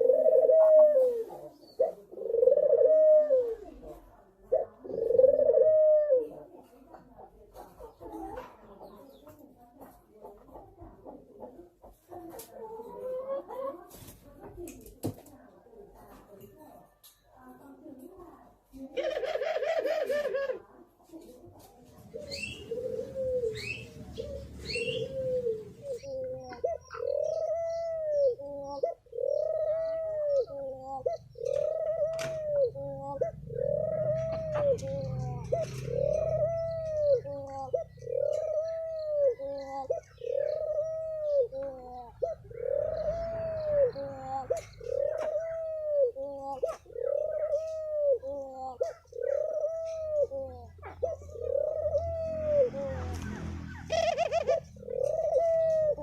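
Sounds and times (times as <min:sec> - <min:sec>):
dove cooing: 0:00.0 - 0:09.4, 0:10.2 - 0:14.8, 0:17.8 - 0:56.0.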